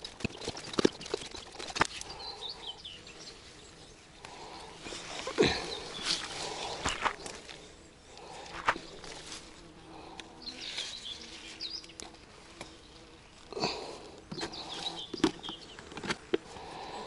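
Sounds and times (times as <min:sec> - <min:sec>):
grass and leaves rustling: 0:00.0 - 0:17.0
small birds chirping: 0:00.0 - 0:17.0.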